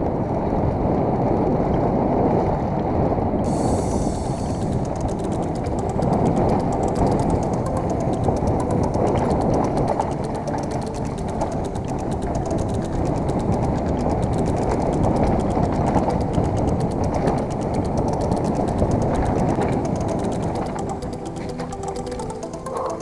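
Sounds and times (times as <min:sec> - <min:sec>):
wind rumble on microphone: 0:00.0 - 0:22.2
freehub ratchet clicking: 0:03.4 - 0:23.0
bike rattling over bumps: 0:03.5 - 0:23.0.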